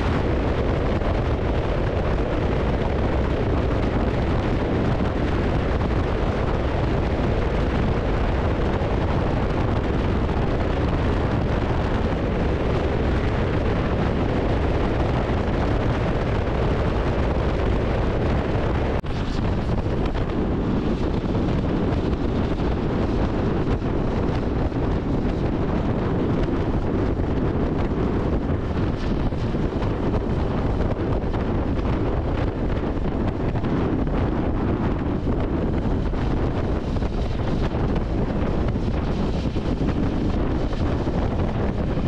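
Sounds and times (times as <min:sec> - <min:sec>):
motorcycle running: 0:00.0 - 0:42.0
road noise: 0:00.0 - 0:42.0
wind rush on microphone: 0:00.0 - 0:42.0.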